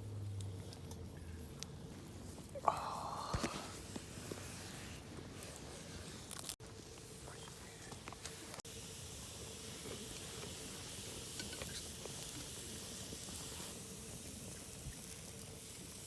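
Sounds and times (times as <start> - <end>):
fire crackles: 0.0 - 16.0
meat sizzling over campfire: 0.0 - 16.0.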